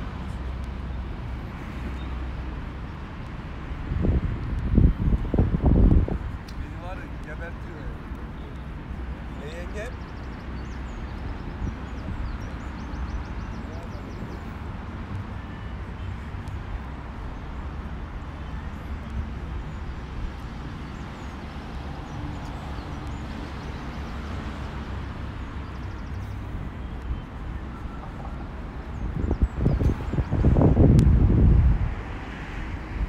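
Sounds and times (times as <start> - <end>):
low street rumble: 0.0 - 33.0.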